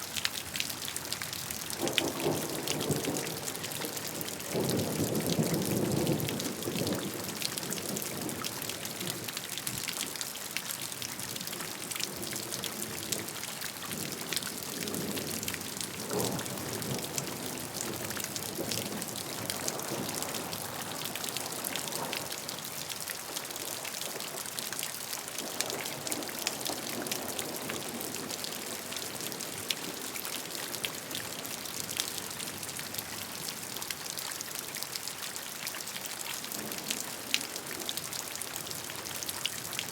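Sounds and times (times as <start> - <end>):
steady rain with drops ticking: 0.0 - 39.9.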